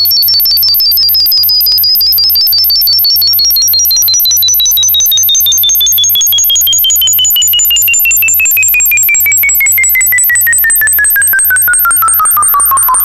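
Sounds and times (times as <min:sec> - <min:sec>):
steady very high tone: 0:00.0 - 0:13.0.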